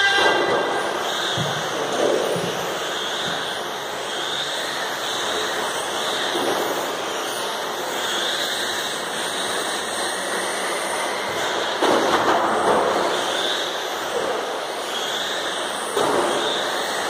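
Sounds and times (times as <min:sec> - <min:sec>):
model cars whirring: 0:00.8 - 0:17.0.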